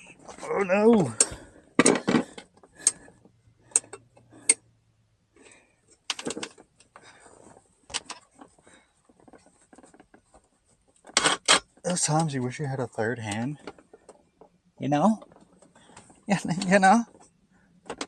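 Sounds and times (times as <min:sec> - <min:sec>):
plastic and metal parts clattering: 0:00.0 - 0:04.6, 0:05.4 - 0:12.3, 0:13.2 - 0:18.0.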